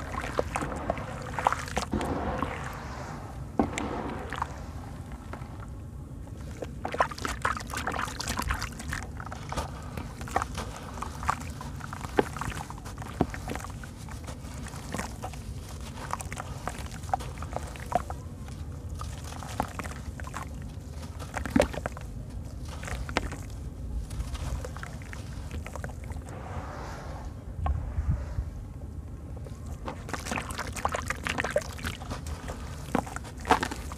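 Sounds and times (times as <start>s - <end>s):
hands sloshing in water: 0.0s - 5.7s, 6.3s - 26.5s, 29.6s - 33.9s.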